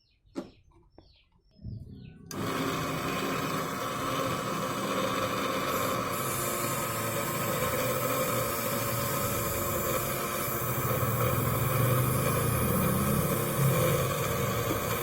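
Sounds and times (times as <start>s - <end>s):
small motor humming and hissing: 2.3s - 15.0s.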